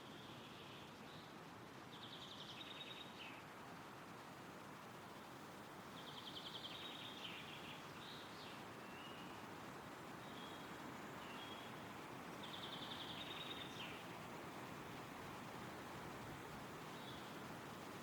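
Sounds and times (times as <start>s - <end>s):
wind through trees: 0.0s - 18.0s.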